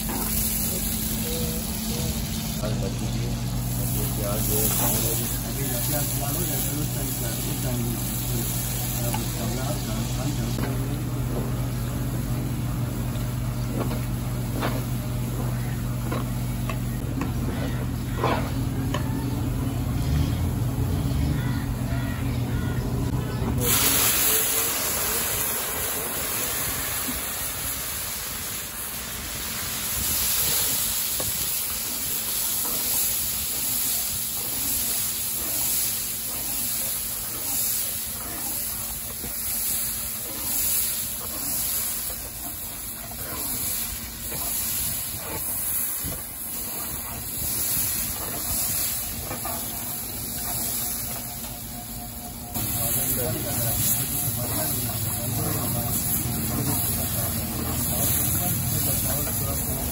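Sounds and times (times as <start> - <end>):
onions frying in oil: 0.0 - 18.7, 23.6 - 59.9
loud steam hiss and sizzling: 0.0 - 22.1, 23.1 - 59.9.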